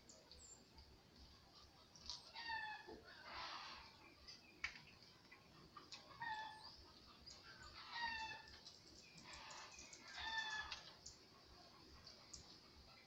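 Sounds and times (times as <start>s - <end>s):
chickens calling: 1.6s - 13.0s.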